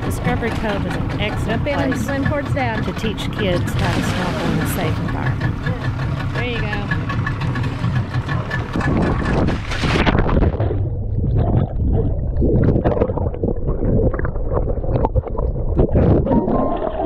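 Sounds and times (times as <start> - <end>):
muffled underwater rumble: 0.0 - 17.0
seawater splashing: 0.0 - 17.0
underwater bubbling: 0.0 - 17.0.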